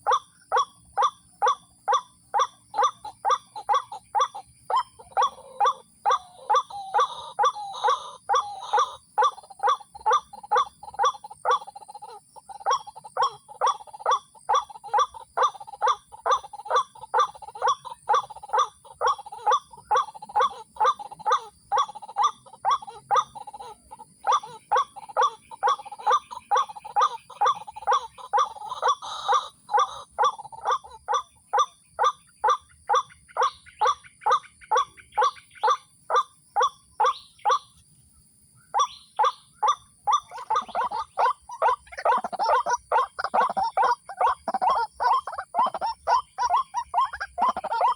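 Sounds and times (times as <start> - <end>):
bird harsh repeated calls: 0.0 - 47.9.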